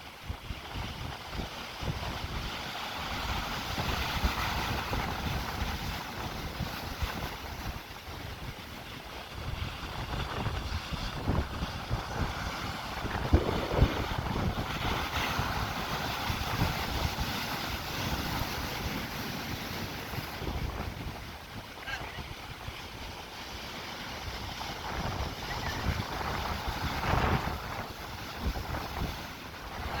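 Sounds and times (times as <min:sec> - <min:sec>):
wind buffeting microphone: 0:00.0 - 0:30.0
waves breaking against rocks: 0:00.1 - 0:30.0.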